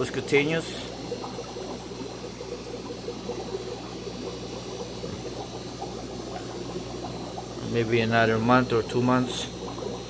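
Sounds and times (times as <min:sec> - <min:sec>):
aquarium sponge filter bubbling: 0:00.0 - 0:10.0
low steady hum: 0:00.0 - 0:10.0.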